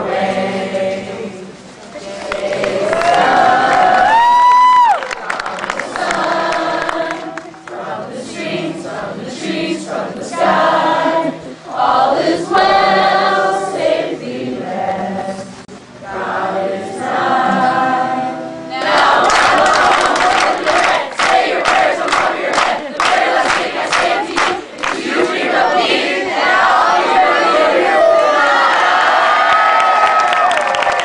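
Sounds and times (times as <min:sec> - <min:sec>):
group singing: 0:00.0 - 0:29.6.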